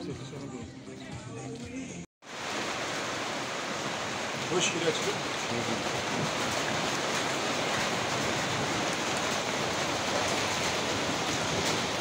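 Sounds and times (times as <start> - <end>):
rain on wet pavement: 2.2 - 12.0.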